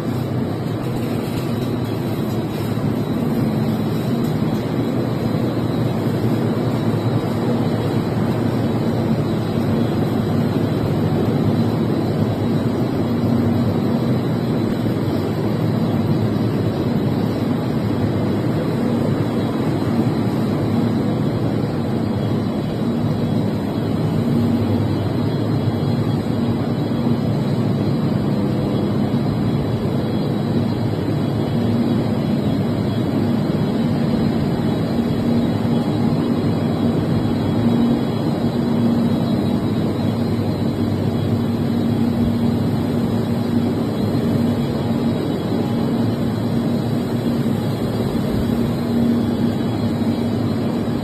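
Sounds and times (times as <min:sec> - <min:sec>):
steady machine hum: 0:00.0 - 0:51.0
wire-processing machines running: 0:00.0 - 0:51.0.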